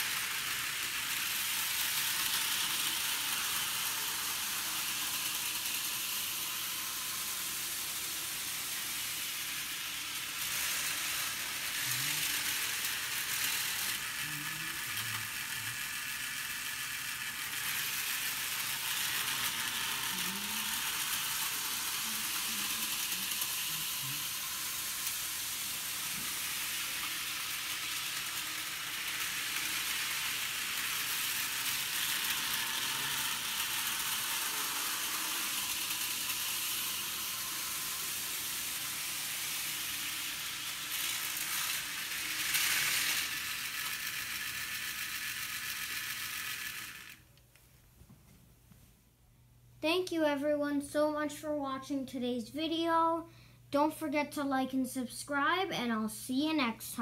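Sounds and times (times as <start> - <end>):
wheels rolling on rails: 0.0 - 47.2
model train motor whirring: 0.0 - 47.3.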